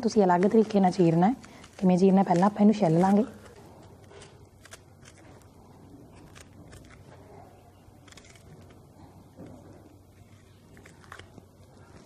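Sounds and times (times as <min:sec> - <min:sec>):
low steady background hum: 0:00.0 - 0:12.0
onion skin crackling as peeled: 0:00.0 - 0:12.0.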